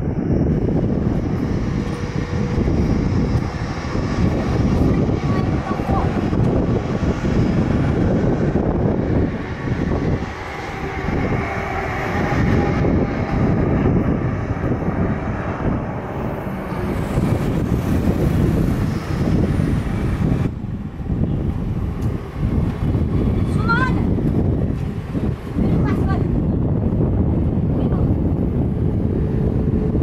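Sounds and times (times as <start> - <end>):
faint engine whine: 0.0 - 30.0
jet engines rumbling: 0.0 - 30.0.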